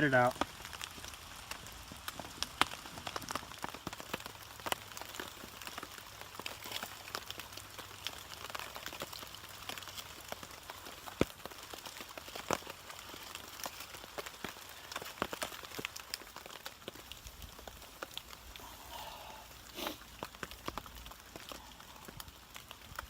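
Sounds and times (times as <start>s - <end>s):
sharp ticks of raindrops: 0.0s - 23.0s
steady rain: 0.0s - 23.0s.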